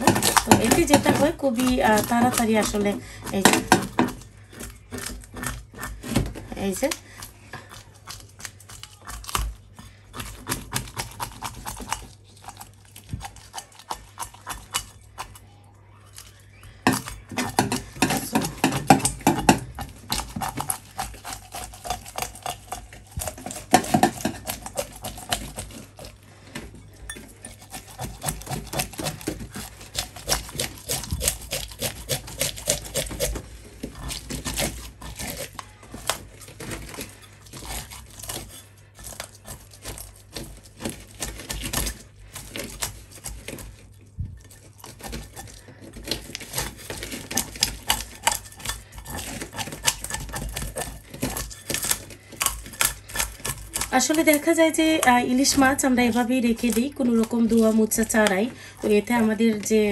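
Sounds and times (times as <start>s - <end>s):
steel bowl scraping fish scales: 0.0s - 8.8s, 16.6s - 59.9s.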